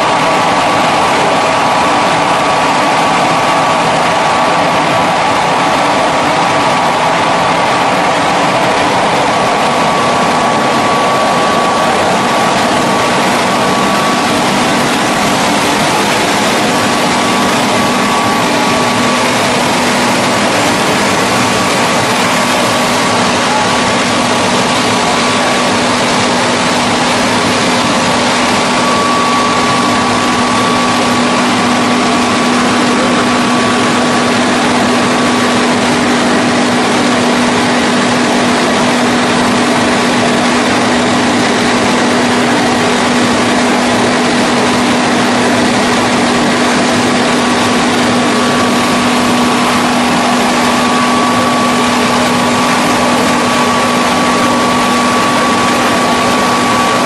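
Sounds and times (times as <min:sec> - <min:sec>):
veneer peeling lathe running: 0:00.0 - 0:57.0.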